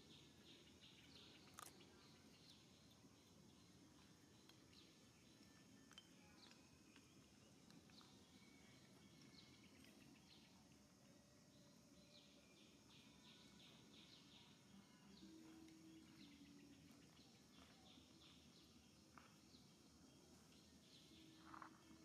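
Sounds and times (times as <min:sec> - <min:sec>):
faint high chirps: 0:00.0 - 0:22.0.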